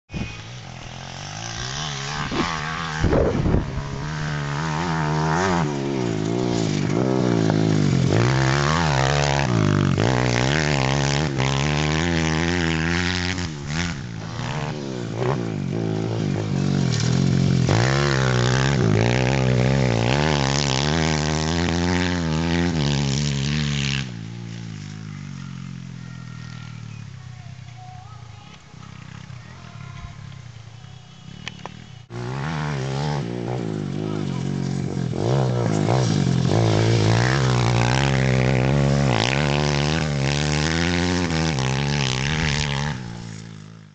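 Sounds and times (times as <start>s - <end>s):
pit bike engine revving: 0.1s - 27.8s, 28.4s - 43.9s.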